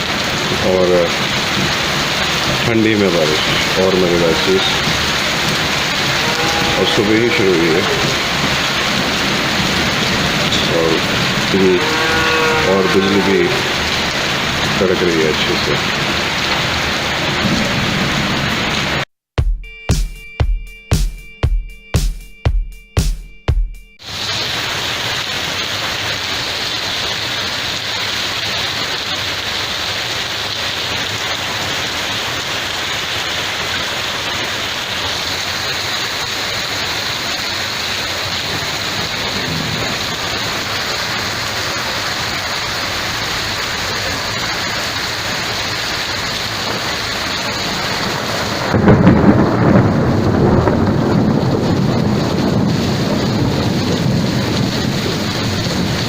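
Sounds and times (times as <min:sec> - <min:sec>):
heavy rain hissing: 0:00.0 - 0:19.1, 0:24.0 - 0:56.0.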